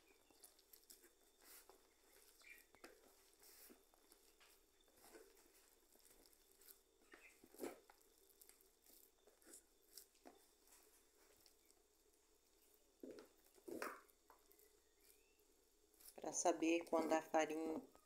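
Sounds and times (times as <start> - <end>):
bread dough squishing: 0.0 - 18.0.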